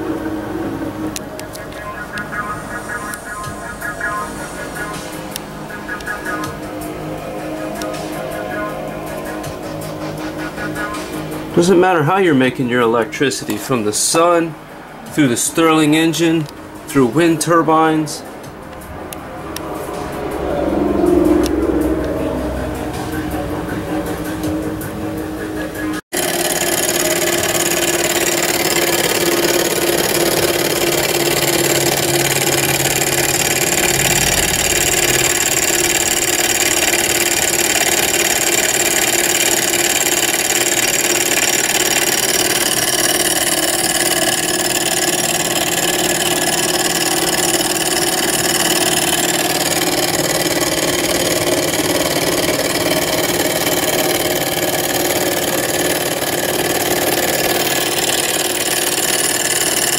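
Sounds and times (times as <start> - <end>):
small engine whirring hum: 0.0 - 11.7, 13.4 - 59.9.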